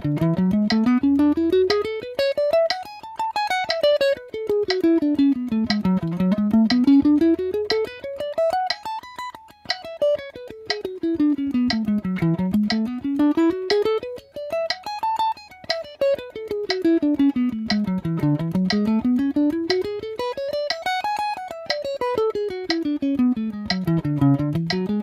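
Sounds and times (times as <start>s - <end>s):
electric guitar picking a scale: 0.0s - 25.0s
metronome clicking: 0.0s - 25.0s.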